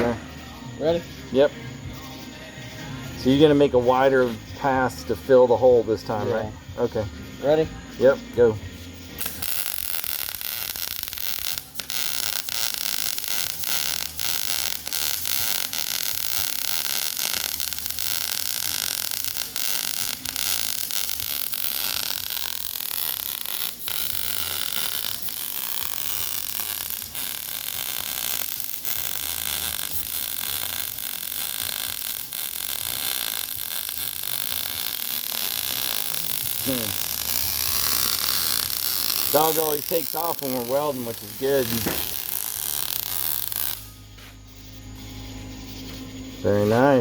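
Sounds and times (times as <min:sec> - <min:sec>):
arc welding crackling hiss: 0:00.0 - 0:47.0.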